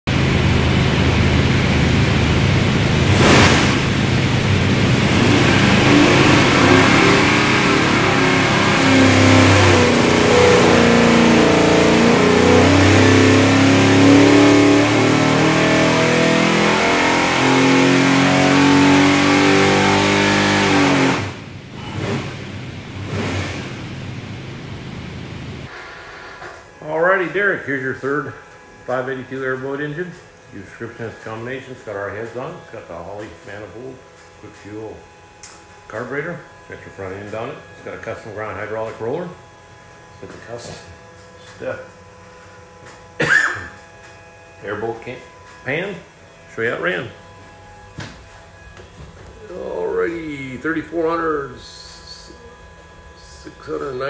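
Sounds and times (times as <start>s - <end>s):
engine revving on dyno: 0.0s - 54.0s.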